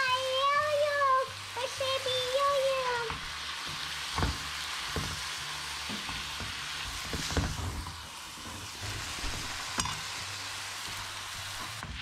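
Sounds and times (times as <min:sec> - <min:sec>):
noodles sizzling in a frying pan: 0:00.0 - 0:12.0.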